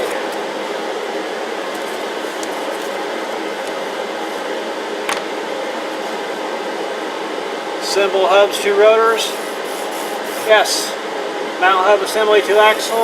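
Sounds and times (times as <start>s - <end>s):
steady machine noise: 0.0s - 13.0s.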